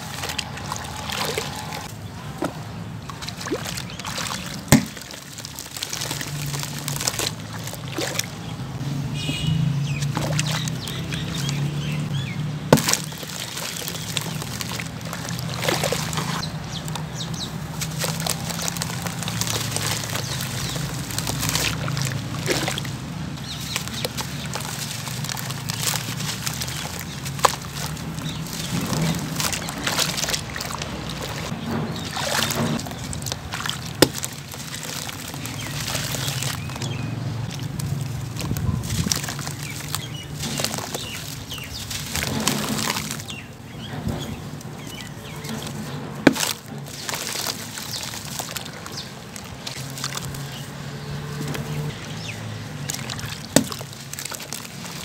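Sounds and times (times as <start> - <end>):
hands sloshing water: 0.0 - 55.0
wet cement crumbling into water: 0.0 - 55.0.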